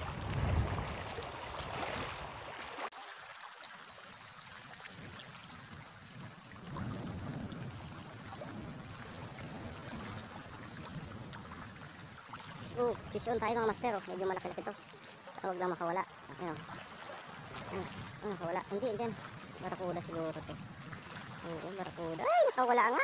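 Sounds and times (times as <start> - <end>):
wind rumbling on microphone: 0.0 - 2.7, 4.1 - 23.0
water lapping against a boat: 0.0 - 23.0.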